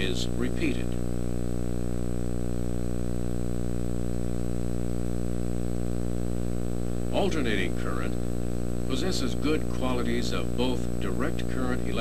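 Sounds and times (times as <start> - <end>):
electrical mains hum: 0.0 - 12.0
faint high whine: 0.0 - 12.0.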